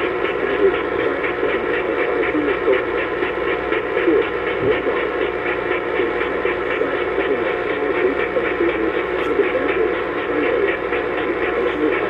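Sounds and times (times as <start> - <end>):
muffled radio audio: 0.0 - 12.0
radio static hiss: 0.0 - 12.0.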